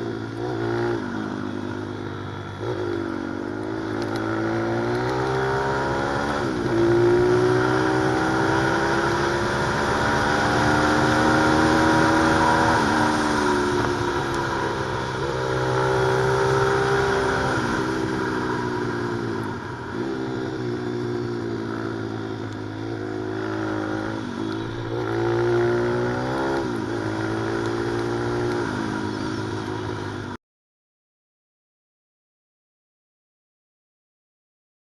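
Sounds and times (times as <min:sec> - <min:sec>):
pit bike engine revving: 0:00.0 - 0:29.9.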